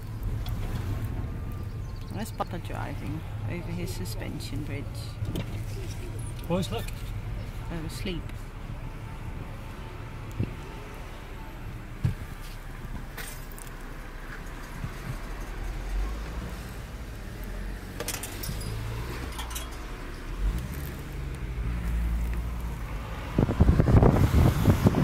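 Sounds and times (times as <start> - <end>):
car engine rumble: 0.0 - 25.0.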